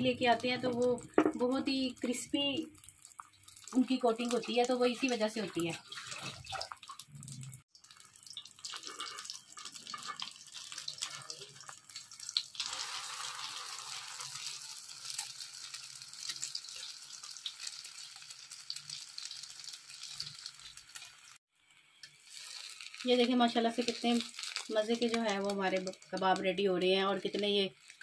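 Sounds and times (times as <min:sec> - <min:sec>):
kebabs sizzling in hot oil: 0:00.0 - 0:28.0.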